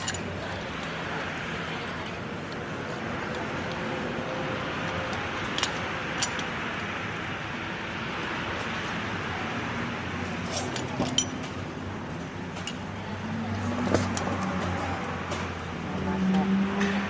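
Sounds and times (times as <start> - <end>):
workshop background noise: 0.0 - 17.0.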